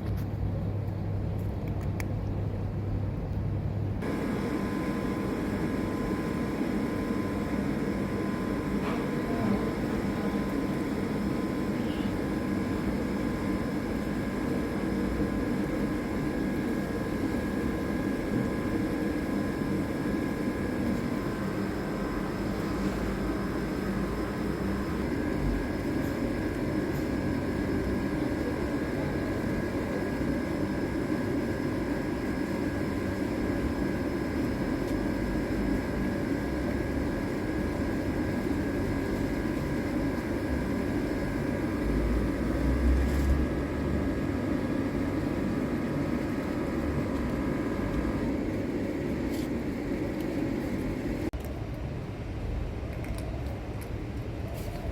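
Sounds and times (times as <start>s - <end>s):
low mechanical rumble: 0.0s - 54.9s.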